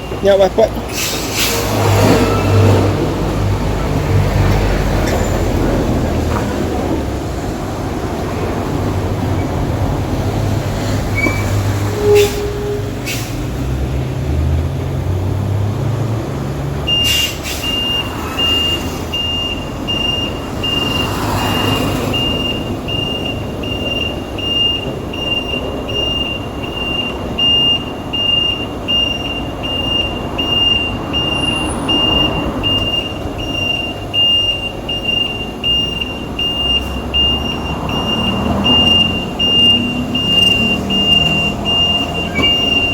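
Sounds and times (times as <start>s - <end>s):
truck reversing alarm beeping: 0.0s - 6.5s, 8.6s - 13.6s, 16.7s - 42.9s
truck engine rumbling: 0.0s - 42.9s.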